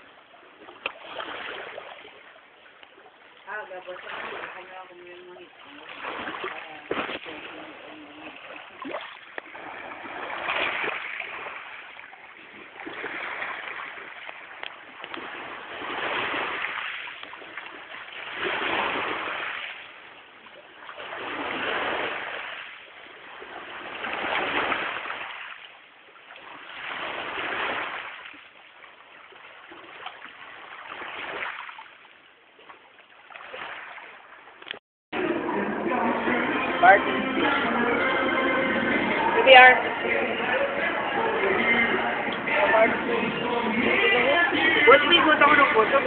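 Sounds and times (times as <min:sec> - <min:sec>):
water surging in swells: 0:00.0 - 0:37.7, 0:38.9 - 0:46.0.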